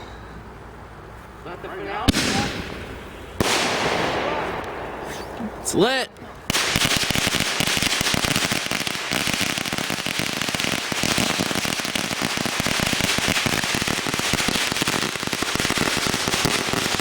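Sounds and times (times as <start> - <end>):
firecrackers rapid bangs: 1.8 - 17.0.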